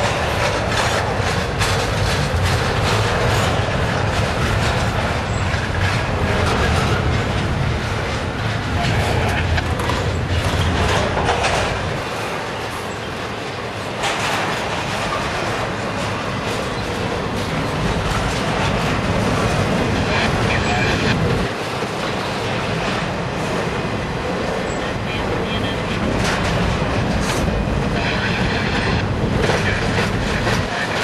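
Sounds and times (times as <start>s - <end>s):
clickety-clack over rail joints: 0.0s - 31.0s
train clanks: 0.0s - 31.0s
train wheels rumbling on rail: 0.0s - 31.0s.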